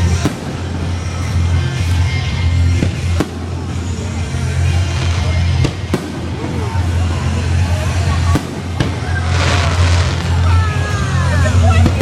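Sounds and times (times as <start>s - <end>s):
fireworks bangs: 0.0s - 12.0s
music playing: 0.0s - 12.0s
onlookers' voices: 0.0s - 12.0s.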